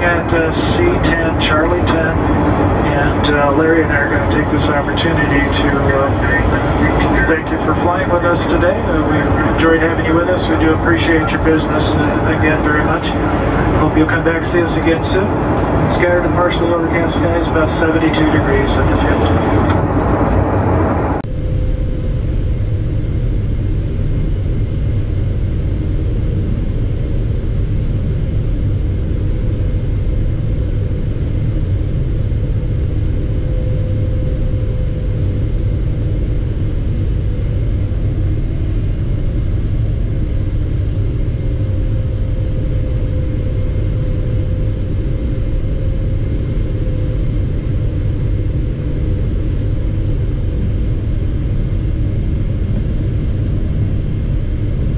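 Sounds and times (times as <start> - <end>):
aircraft cabin rumble: 0.0 - 54.9.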